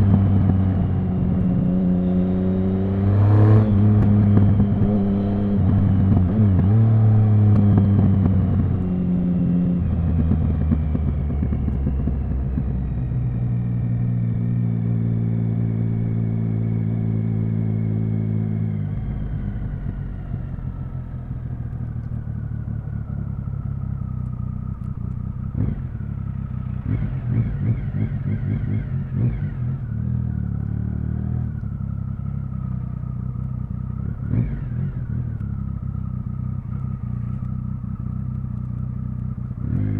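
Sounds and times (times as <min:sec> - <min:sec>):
motorcycle engine running: 0:00.0 - 0:39.9
motorcycle throttle blips: 0:00.0 - 0:39.9.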